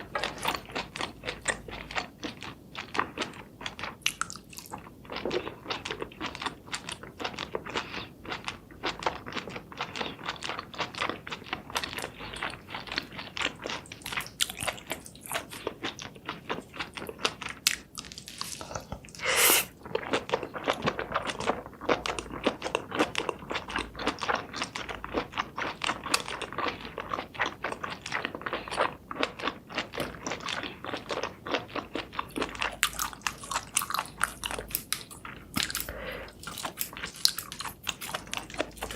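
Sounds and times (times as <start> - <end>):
crunching and chewing seafood: 0.0 - 38.9.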